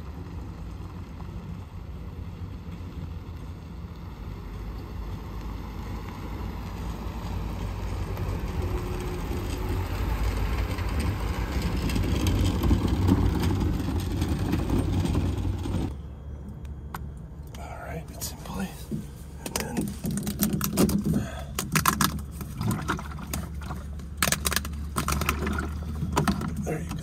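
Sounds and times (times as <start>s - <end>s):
pickup truck driving on pavement: 0.0s - 27.0s.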